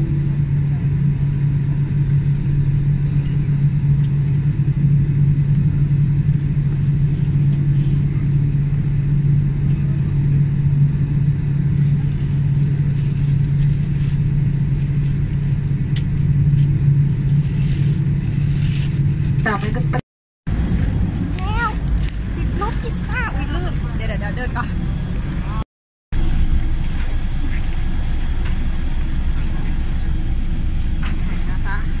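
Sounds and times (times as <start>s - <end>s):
low engine drone: 0.0s - 32.0s.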